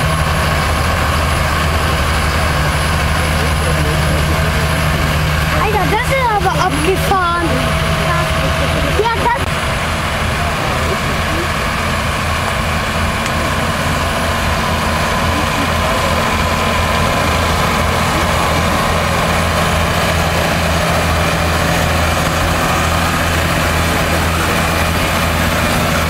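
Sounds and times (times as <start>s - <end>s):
tractor diesel engine droning: 0.0s - 26.0s.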